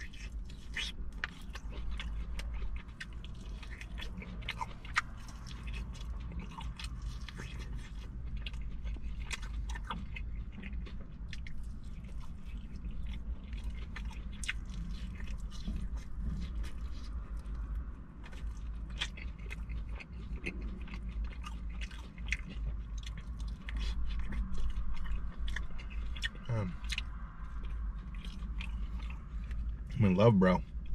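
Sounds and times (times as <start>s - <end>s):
crunchy chewing of fried chicken: 0.0s - 30.9s
steady low hum: 0.0s - 30.9s.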